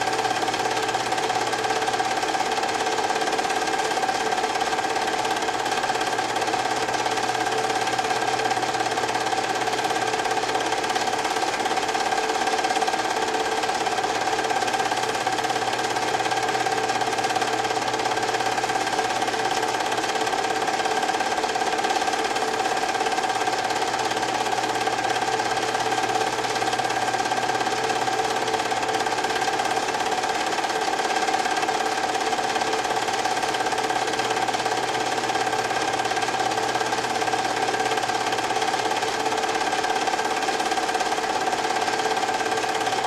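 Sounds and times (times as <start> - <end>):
film projector whirring: 0.0 - 43.0.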